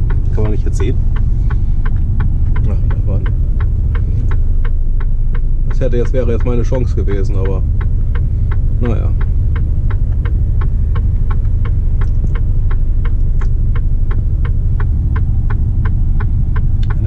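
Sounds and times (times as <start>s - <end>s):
diesel engine idling: 0.0s - 17.0s
turn signal ticking: 0.0s - 17.0s.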